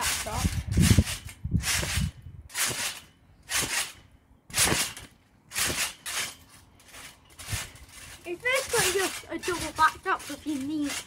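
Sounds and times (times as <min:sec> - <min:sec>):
trampoline bounce thumps: 0:00.0 - 0:11.0.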